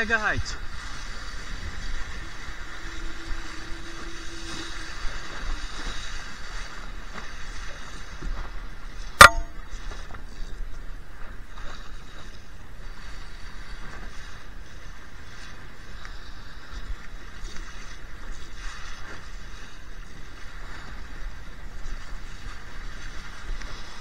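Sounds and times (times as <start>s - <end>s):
wind and water rushing: 0.0s - 24.0s.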